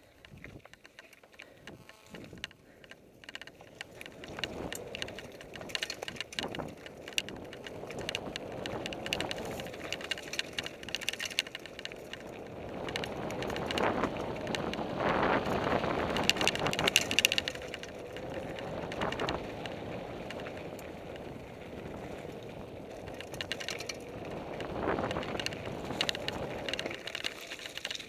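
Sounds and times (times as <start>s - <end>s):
bike rattling and clicking: 0.0s - 28.0s
knobby tyres crunching over dirt: 0.0s - 28.0s.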